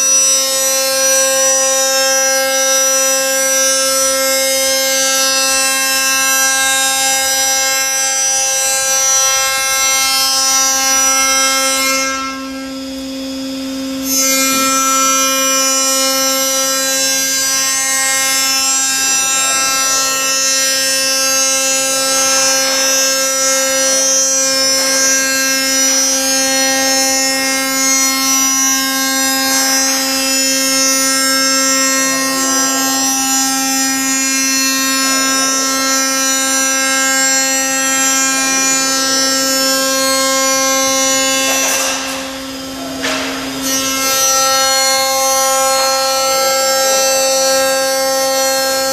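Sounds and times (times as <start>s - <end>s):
milling machine spindle whine: 0.0s - 48.9s.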